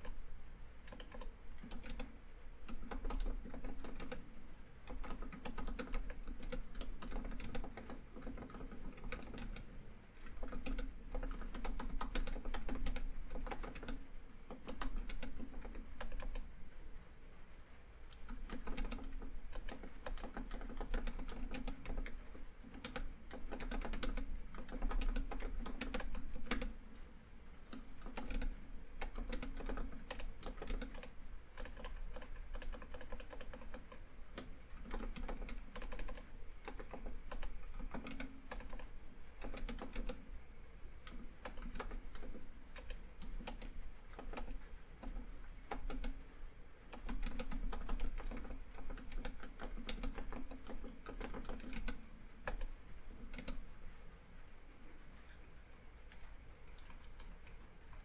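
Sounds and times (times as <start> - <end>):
typing on laptop keyboard: 0.8 - 16.5, 18.1 - 40.3, 40.9 - 53.8, 56.0 - 58.0.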